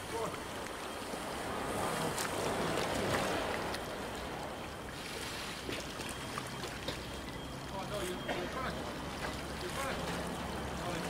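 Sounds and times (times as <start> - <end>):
diesel engines humming: 0.0 - 11.0.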